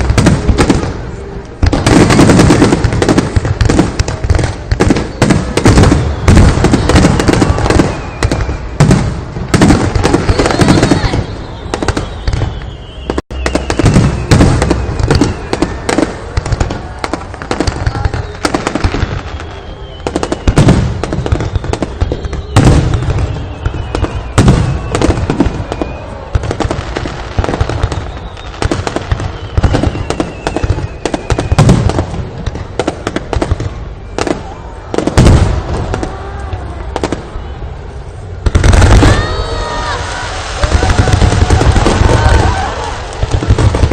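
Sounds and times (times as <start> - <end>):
fireworks bangs and crackling: 0.0 - 43.9
fireworks whistles: 0.0 - 43.9.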